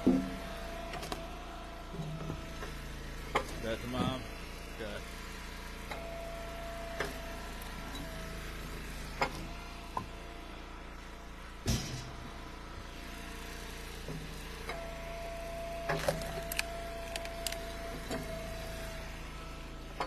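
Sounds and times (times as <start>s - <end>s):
level hydraulic whine: 0.0s - 20.0s
wood splitter engine running: 0.0s - 20.0s.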